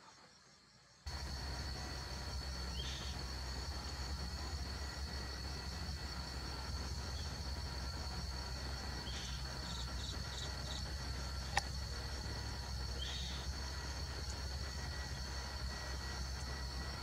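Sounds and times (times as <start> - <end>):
high-pitched insect drone: 0.0 - 17.0
low steady hum: 0.2 - 17.0.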